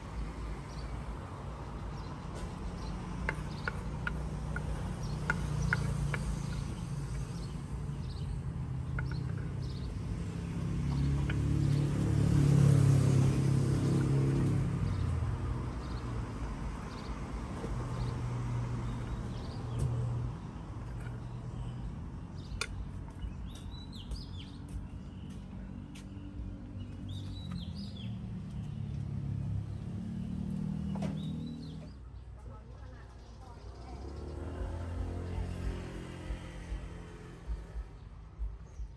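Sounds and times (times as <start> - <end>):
low engine hum: 1.2 - 32.6
birds chirping: 1.7 - 38.9.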